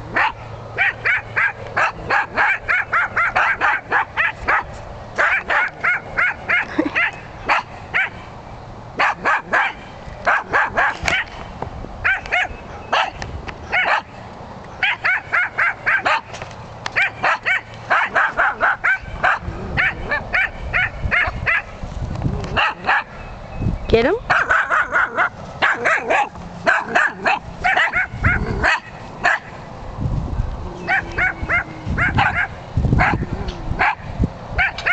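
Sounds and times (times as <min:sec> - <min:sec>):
dog barking in high yaps: 0:00.1 - 0:08.2, 0:09.0 - 0:11.3, 0:12.0 - 0:14.1, 0:14.8 - 0:16.3, 0:17.0 - 0:21.8, 0:22.6 - 0:23.1, 0:24.3 - 0:29.5, 0:30.9 - 0:33.2, 0:33.8 - 0:34.9.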